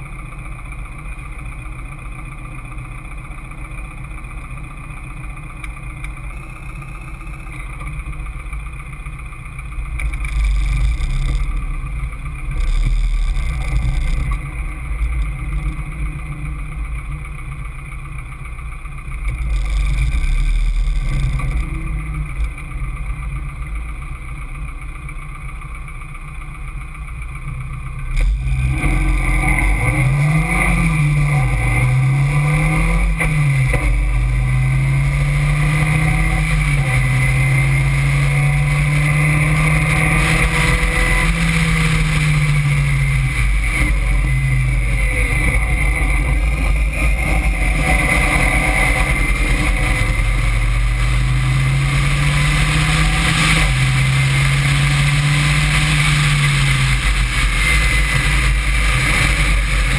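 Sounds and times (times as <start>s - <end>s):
car engine revving on track: 0.0s - 25.2s, 27.5s - 59.9s.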